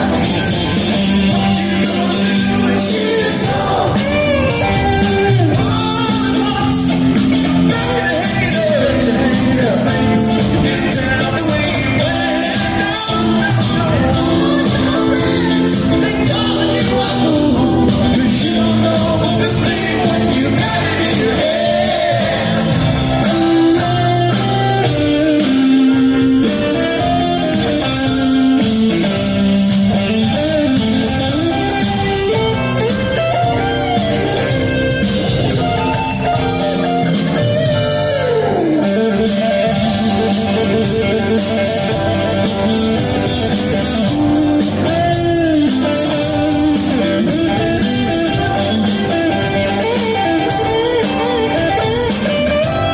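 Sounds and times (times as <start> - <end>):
bass guitar: 0.0 - 52.9
electric guitar solo: 0.0 - 52.9
steady drum beat: 0.0 - 52.9.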